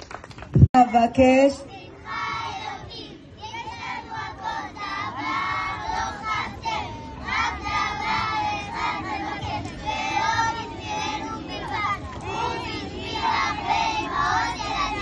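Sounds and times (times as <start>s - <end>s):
children singing in unison: 1.8s - 15.0s.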